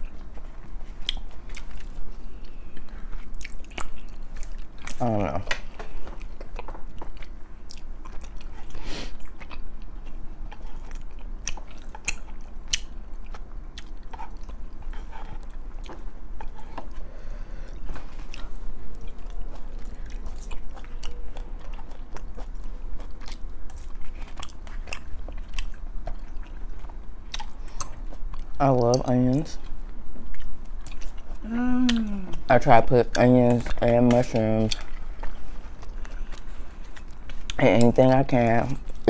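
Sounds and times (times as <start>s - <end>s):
close-miked chewing: 0.0s - 39.0s.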